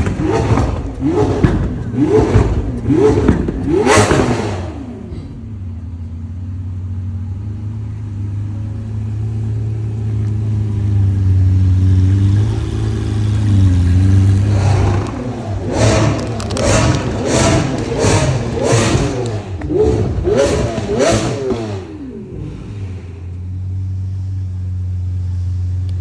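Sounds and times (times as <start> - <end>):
car engine deep rumble: 0.0 - 26.0
car engine revving: 0.0 - 26.0.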